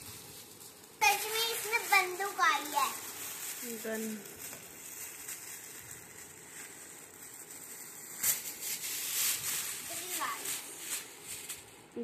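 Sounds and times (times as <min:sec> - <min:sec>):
foil gift wrap crinkling: 0:00.0 - 0:12.0.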